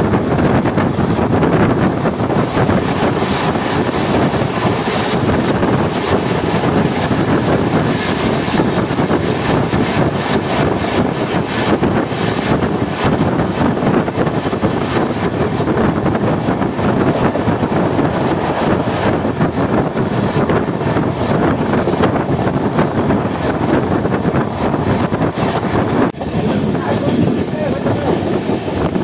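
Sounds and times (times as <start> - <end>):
train rumble and rush: 0.0 - 29.0
wind buffeting microphone: 0.0 - 29.0.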